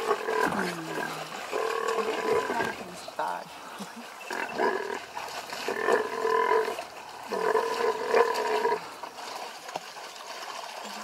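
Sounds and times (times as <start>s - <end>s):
drawn-out animal calls: 0.0s - 8.9s.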